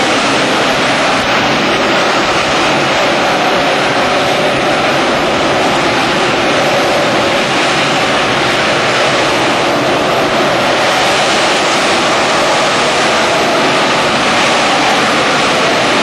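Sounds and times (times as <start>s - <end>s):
jet engine hovering roar: 0.0s - 16.0s.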